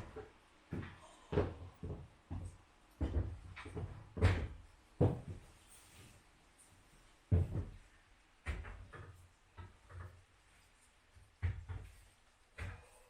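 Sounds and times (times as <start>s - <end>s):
wooden knocks and clunks: 0.0s - 5.6s, 7.3s - 10.4s, 11.1s - 13.0s.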